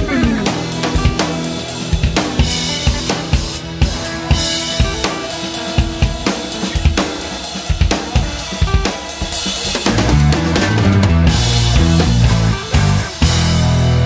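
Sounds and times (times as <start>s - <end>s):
electric guitar: 0.0s - 14.0s
rock drum beat: 0.0s - 14.0s.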